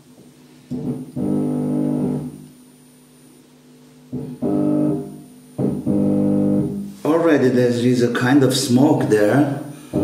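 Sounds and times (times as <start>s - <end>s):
loud low hum from subwoofer: 0.0s - 10.0s.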